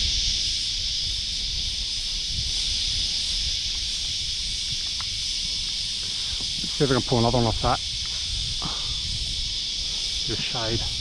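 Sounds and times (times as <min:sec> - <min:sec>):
cicadas buzzing: 0:00.0 - 0:11.0
wind rumbling on microphone: 0:00.0 - 0:11.0.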